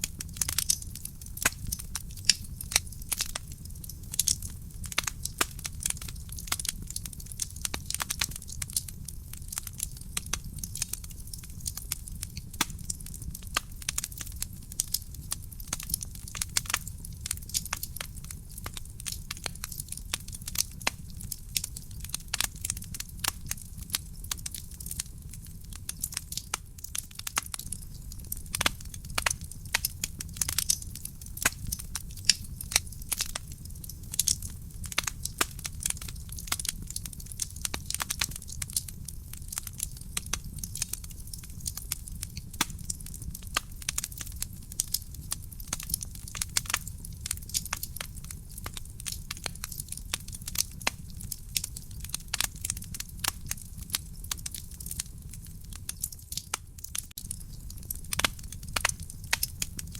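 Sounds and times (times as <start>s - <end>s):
burning logs crackling and popping: 0.0s - 59.9s
low rumble of flames: 0.0s - 59.9s.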